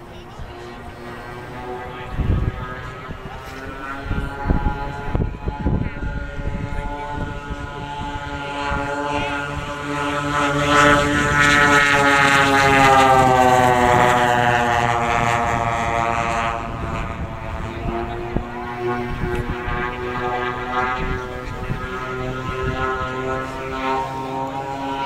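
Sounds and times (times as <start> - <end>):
model plane propeller engines: 0.0 - 25.0.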